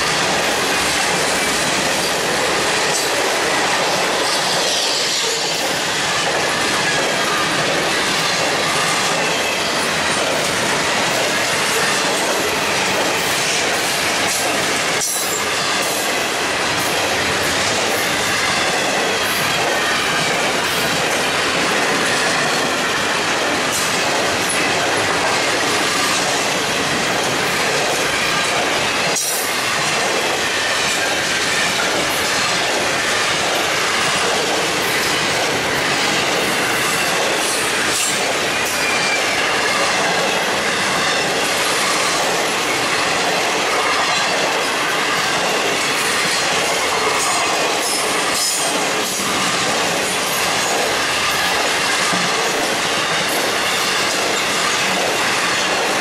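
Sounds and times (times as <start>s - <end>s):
train wheels rattling on rail: 0.0s - 56.0s.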